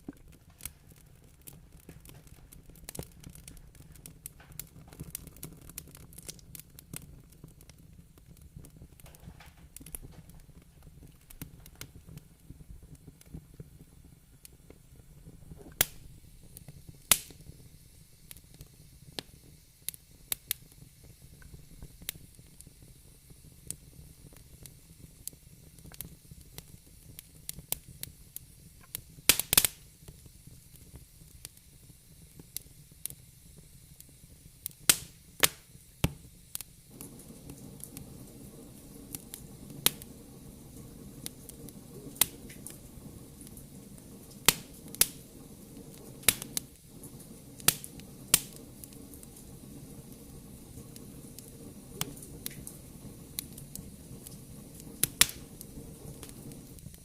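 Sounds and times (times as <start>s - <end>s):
faint hiss: 0.0s - 57.0s
fire crackling: 0.0s - 57.0s.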